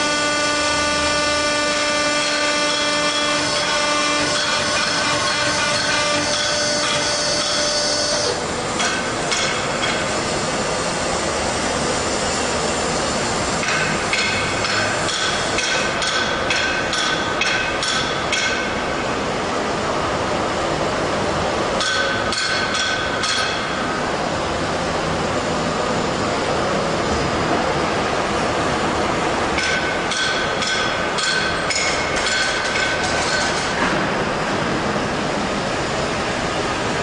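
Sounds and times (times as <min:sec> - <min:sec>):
mechanical hum: 0:00.0 - 0:37.0.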